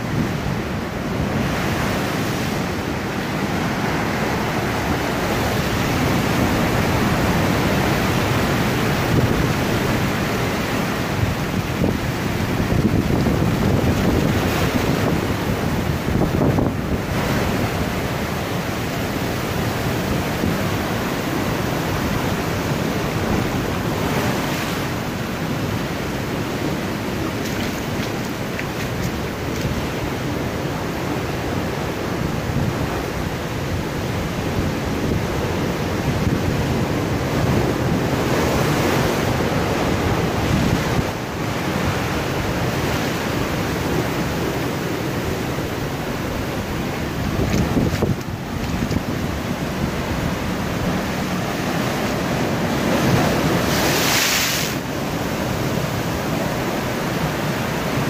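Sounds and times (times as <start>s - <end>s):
ocean surf over rocks: 0.0s - 58.0s.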